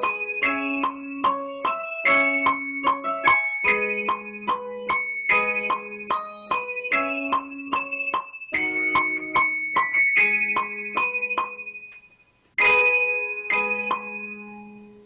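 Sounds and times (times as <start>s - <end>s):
piano music: 0.0s - 12.0s, 12.6s - 15.0s.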